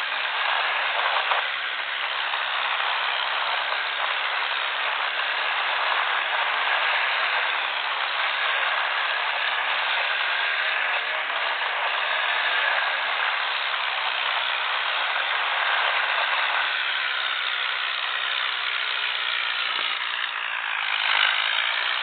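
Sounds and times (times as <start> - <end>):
tractor engines running hard: 0.0 - 22.0.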